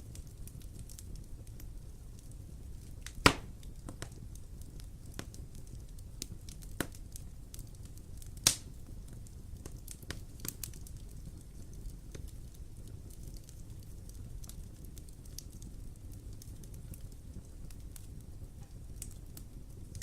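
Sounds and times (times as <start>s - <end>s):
fireplace fire crackling: 0.0s - 20.0s
loud fire pops: 0.0s - 20.0s.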